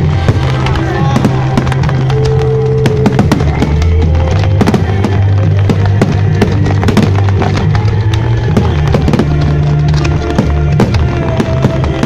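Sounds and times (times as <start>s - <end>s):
fireworks bangs and crackles: 0.0s - 12.0s
loud music over loudspeakers: 0.0s - 12.0s.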